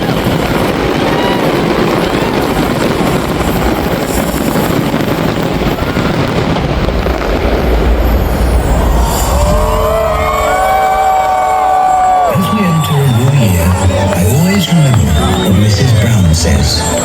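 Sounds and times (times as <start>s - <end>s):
fireworks bursts and crackle: 0.0s - 17.0s
low fireworks booming: 0.0s - 17.0s.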